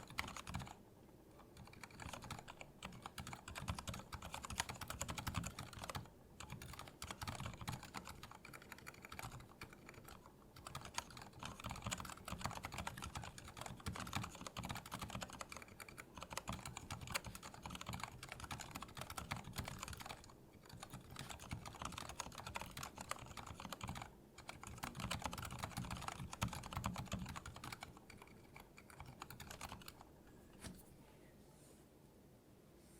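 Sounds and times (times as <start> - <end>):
typing on a keyboard: 0.0 - 0.8, 1.4 - 30.1.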